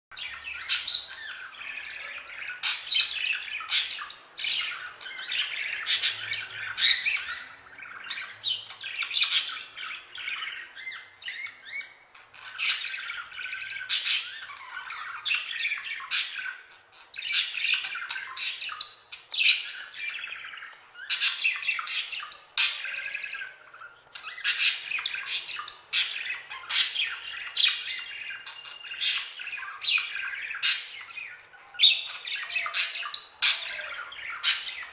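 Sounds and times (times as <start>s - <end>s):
budgerigars chattering: 0.1s - 34.9s
budgerigar squawks and chirps: 0.2s - 34.9s.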